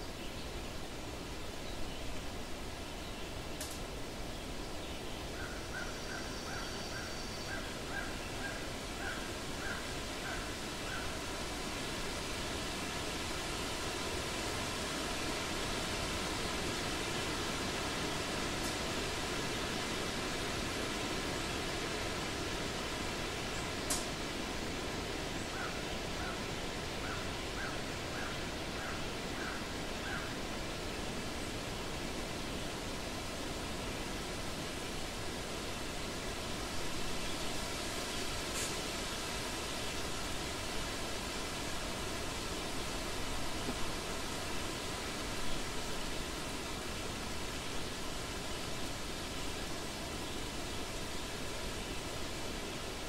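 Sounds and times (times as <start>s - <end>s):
forest stream rushing: 0.0s - 53.0s.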